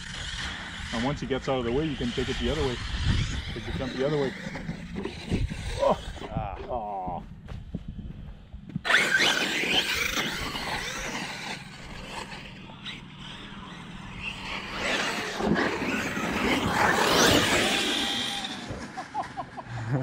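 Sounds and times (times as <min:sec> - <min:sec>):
electric motor whining: 0:00.0 - 0:06.7, 0:08.8 - 0:19.2.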